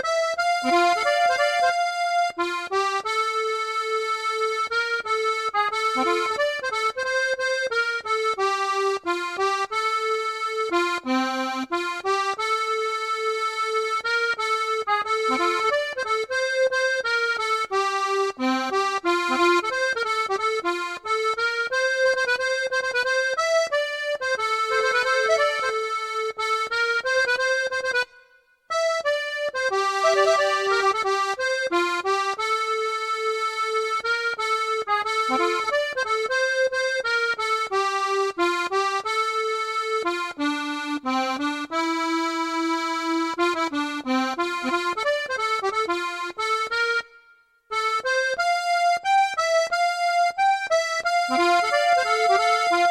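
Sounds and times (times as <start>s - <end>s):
accordion playing melody: 0.0s - 52.9s.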